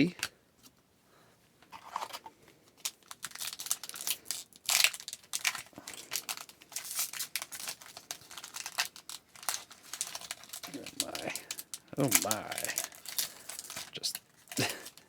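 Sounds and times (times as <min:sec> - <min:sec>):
foil wrapper crinkling: 0:02.8 - 0:15.0.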